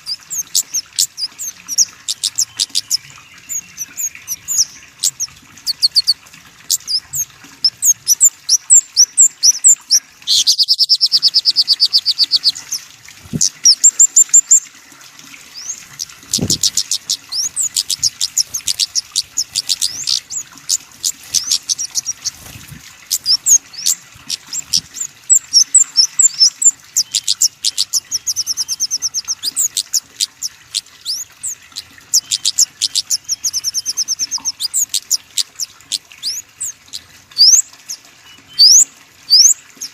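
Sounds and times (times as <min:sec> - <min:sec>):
bird trills: 0:00.0 - 0:12.8, 0:15.5 - 0:22.5, 0:23.1 - 0:39.9
songbirds chirping: 0:00.0 - 0:14.6, 0:15.2 - 0:39.9.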